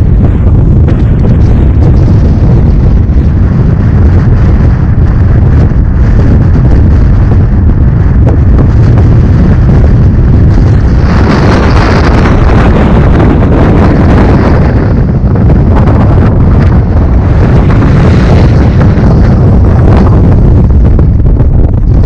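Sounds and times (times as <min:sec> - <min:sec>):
wind hitting microphone: 0:00.0 - 0:22.0.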